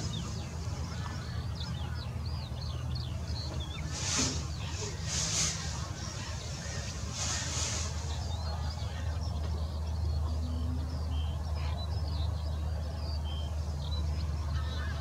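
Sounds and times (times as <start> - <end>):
steady low rumble: 0.0 - 13.0
birds chirping: 0.0 - 15.0.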